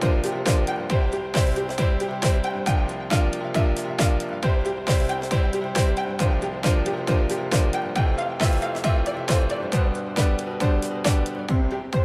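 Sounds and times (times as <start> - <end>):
held synth chords: 0.0 - 12.0
kick drum: 0.0 - 12.0.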